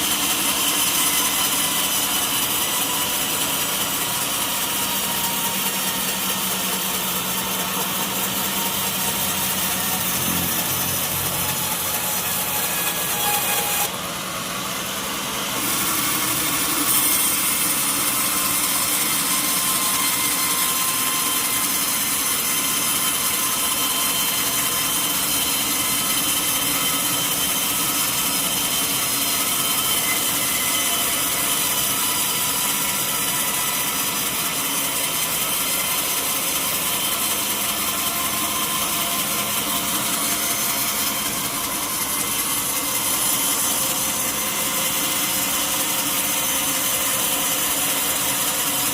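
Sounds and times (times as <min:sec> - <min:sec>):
saw cutting through log: 0:00.0 - 0:48.9.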